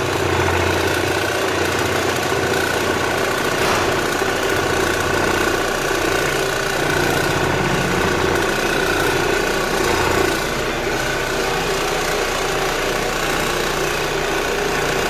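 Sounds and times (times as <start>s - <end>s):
floor sanding machine running: 0.0s - 15.0s.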